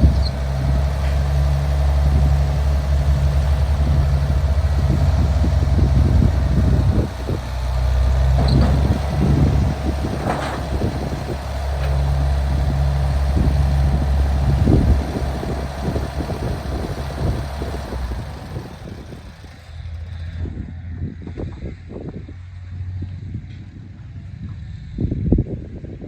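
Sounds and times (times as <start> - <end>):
engine humming: 0.0 - 24.9.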